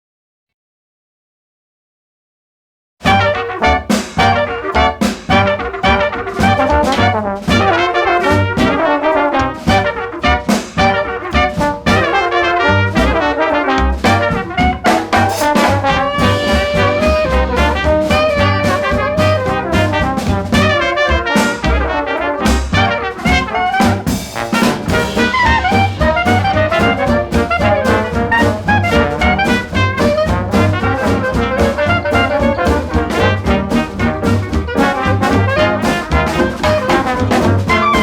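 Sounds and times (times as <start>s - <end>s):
swing jazz with brass section: 3.0s - 38.0s.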